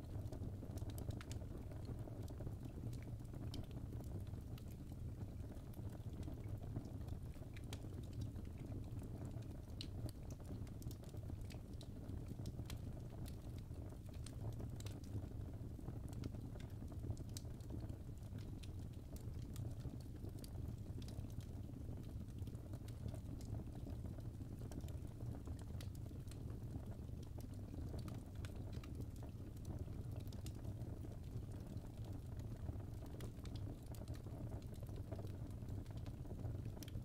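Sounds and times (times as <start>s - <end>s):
low rumble of burning flames: 0.0s - 37.0s
fire crackling and popping: 0.1s - 37.0s.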